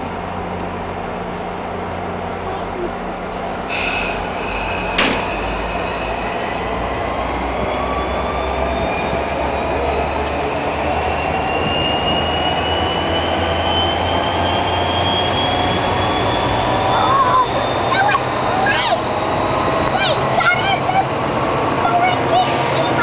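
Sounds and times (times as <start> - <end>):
train coaches rumbling: 0.0 - 23.0
train whine rising in pitch: 3.3 - 23.0.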